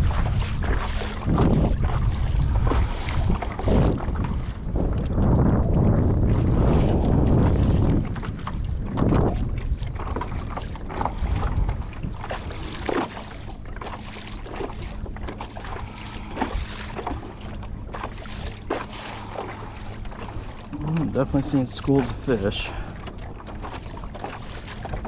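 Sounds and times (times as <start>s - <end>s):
small waves lapping against hull: 0.0s - 25.0s
wind buffeting microphone: 0.0s - 25.0s.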